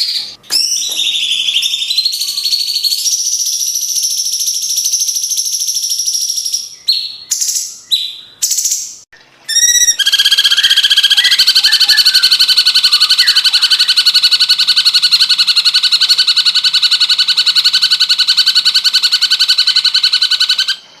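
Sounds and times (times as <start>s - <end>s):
bird singing fast trills: 0.0s - 21.0s.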